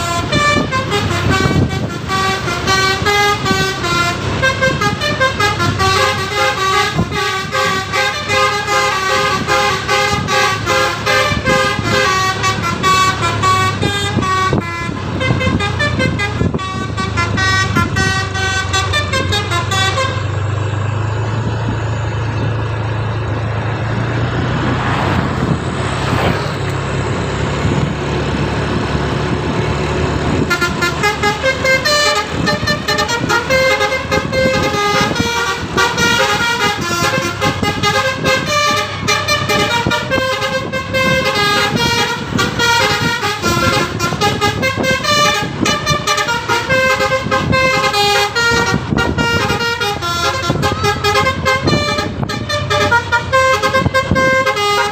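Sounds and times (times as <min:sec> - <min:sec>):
multi-tone musical bus horn: 0:00.0 - 0:20.7, 0:29.3 - 0:54.9
bus engine hum: 0:00.0 - 0:54.9.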